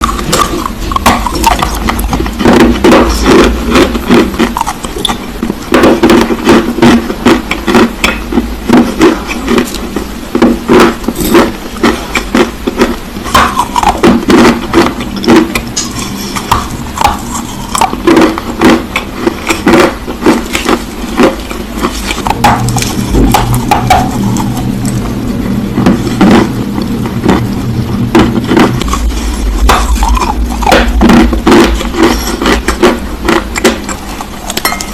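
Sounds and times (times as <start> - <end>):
clay being chewed crunching: 0.0 - 34.9.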